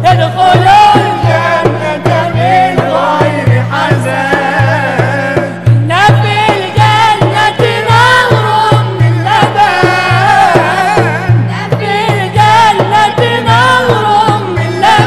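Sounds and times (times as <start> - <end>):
group singing in chorus: 0.0 - 15.0
low frame drum beat: 0.0 - 15.0.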